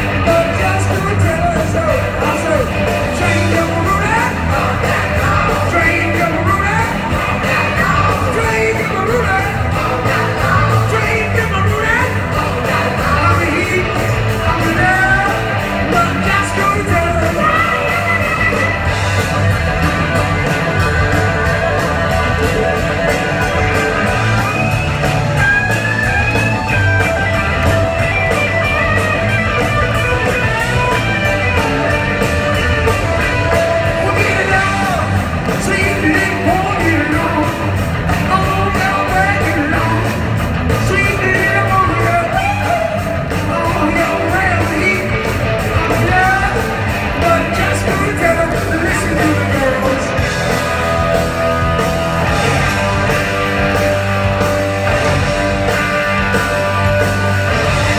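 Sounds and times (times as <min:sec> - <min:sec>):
lead singer: 0:00.0 - 0:57.9
live rock band: 0:00.0 - 0:57.9.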